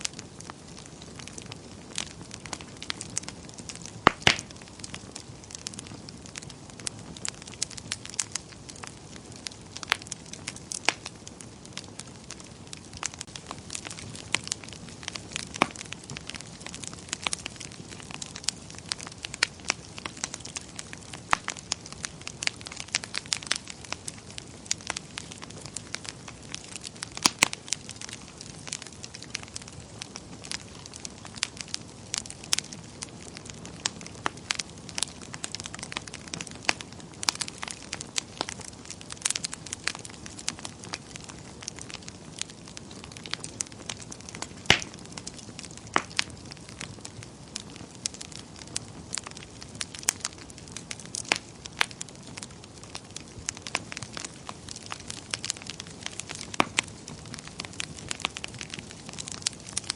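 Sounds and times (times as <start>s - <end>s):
fire pops: 0.0s - 59.9s
wood fire crackling: 0.0s - 59.9s.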